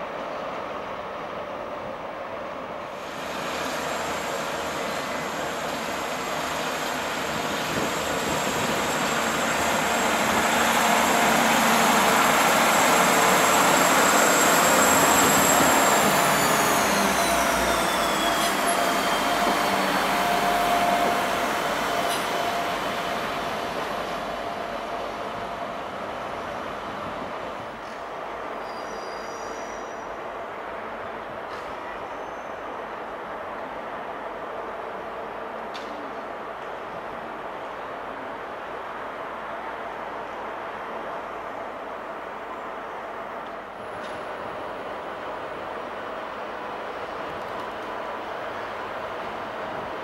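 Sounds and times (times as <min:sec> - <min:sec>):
diesel train passing: 0:00.0 - 0:50.0.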